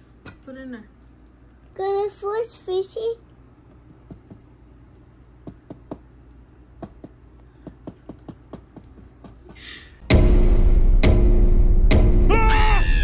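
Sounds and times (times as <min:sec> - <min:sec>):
low steady hum: 0:00.0 - 0:10.7.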